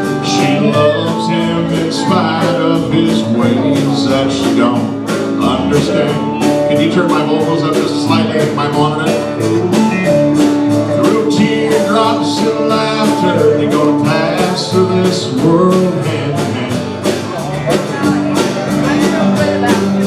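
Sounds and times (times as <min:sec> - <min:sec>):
country band playing: 0:00.0 - 0:20.0
man singing: 0:00.0 - 0:20.0.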